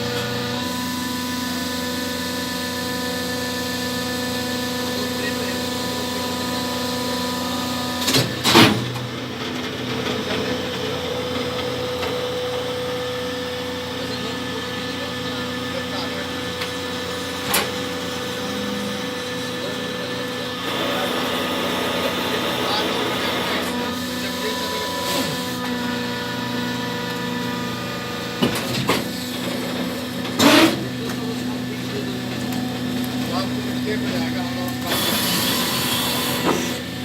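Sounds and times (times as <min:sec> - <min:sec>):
baling press motor hum: 0:00.0 - 0:37.0.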